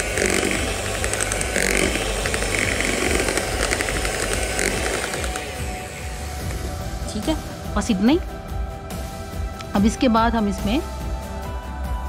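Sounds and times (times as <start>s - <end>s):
electric hand mixer whirring: 0.0s - 9.7s.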